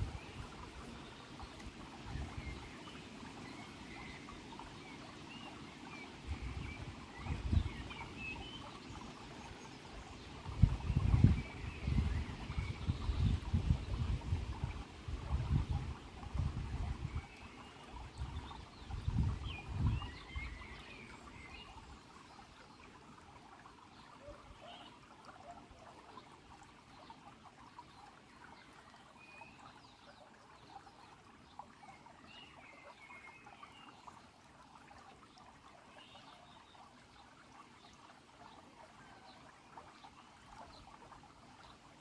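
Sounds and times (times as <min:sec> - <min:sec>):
stream trickling over pebbles: 0:00.0 - 0:42.0.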